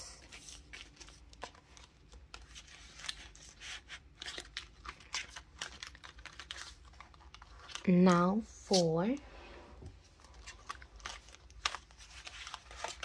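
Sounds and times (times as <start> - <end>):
paper banknotes rustling: 0.0 - 9.2, 10.1 - 13.0
plastic envelope crinkling: 0.2 - 9.2, 10.0 - 13.0.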